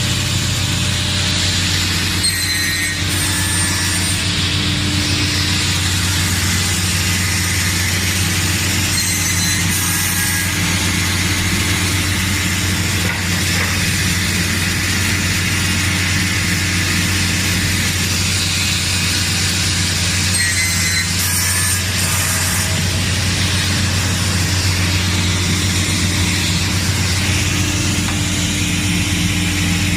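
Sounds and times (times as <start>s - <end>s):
panel saw running: 0.0s - 29.9s.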